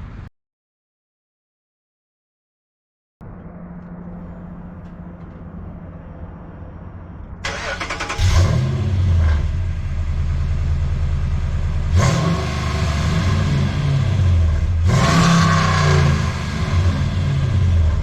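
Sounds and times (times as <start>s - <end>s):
truck engine exhaust rumble: 3.2s - 18.0s.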